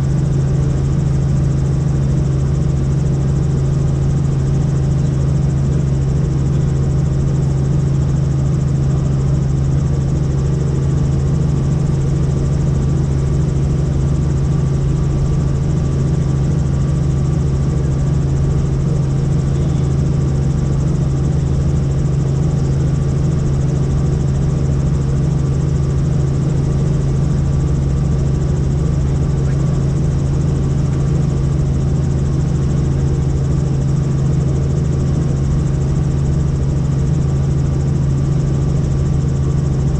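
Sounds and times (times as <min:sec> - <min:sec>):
helicopter engine and rotors: 0:00.0 - 0:39.9.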